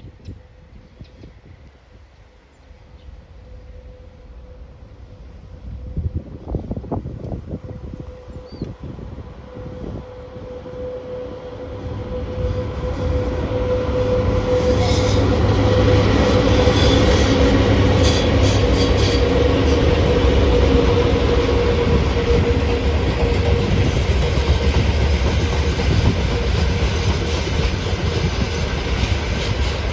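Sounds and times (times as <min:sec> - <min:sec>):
electric locomotive hum and whine: 0:00.0 - 0:29.9.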